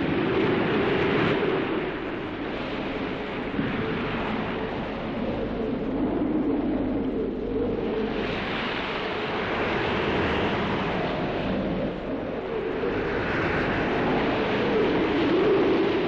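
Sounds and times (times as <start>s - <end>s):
wind blowing off the sea: 0.0s - 16.0s.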